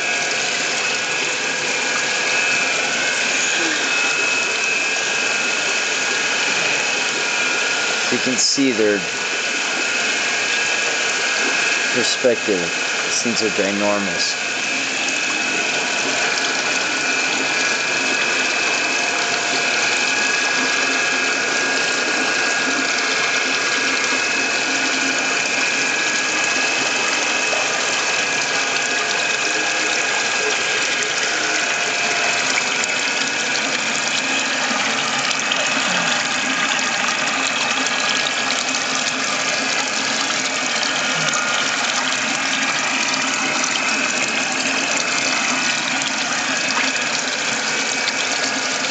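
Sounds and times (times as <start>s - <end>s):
pump mechanical whine: 0.0s - 48.9s
rushing water: 0.0s - 48.9s.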